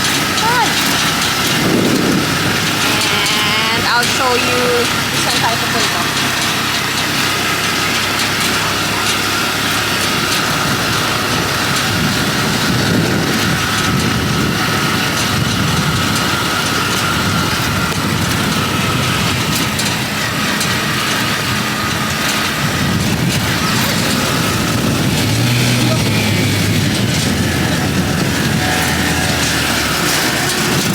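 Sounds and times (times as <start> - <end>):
rattling clicks: 0.0 - 30.9
small engine running: 0.0 - 30.9.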